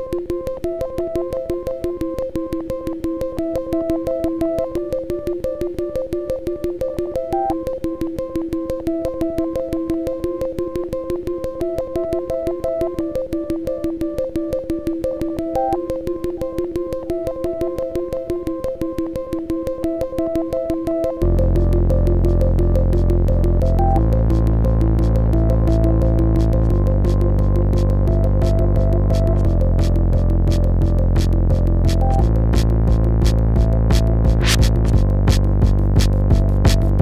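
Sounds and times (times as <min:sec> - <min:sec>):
synth-pop music: 0:00.0 - 0:37.0.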